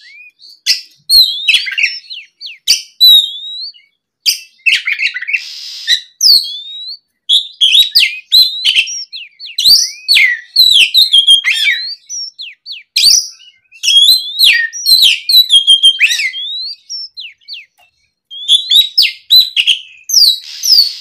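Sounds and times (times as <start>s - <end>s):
bird singing whistles and chirps: 0.0s - 21.0s.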